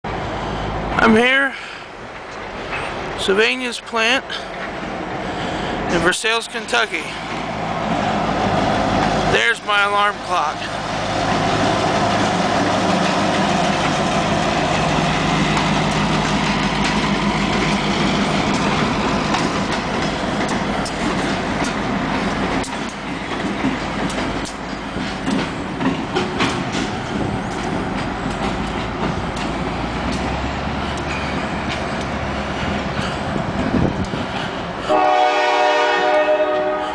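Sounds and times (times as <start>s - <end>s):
diesel locomotive running: 0.1s - 36.9s
wheels clicking over rail joints: 4.0s - 35.0s.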